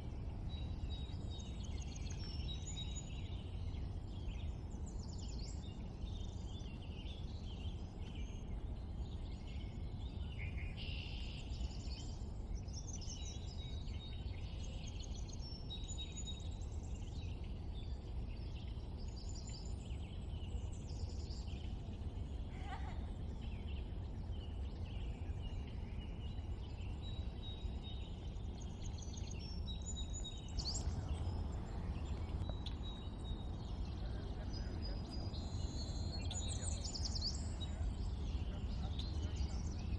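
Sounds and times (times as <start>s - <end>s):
low background rumble: 0.0s - 39.9s
wild birds chirping: 0.0s - 39.9s.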